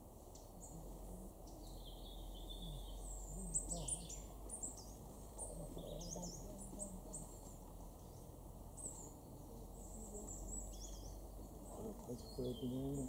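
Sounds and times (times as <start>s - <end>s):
small songbirds calling: 0.0s - 13.0s.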